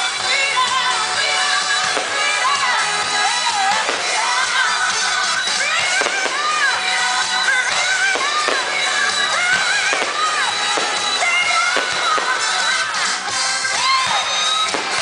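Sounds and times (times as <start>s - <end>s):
fireworks bursting: 0.0s - 15.0s
song with singing voice: 0.0s - 15.0s.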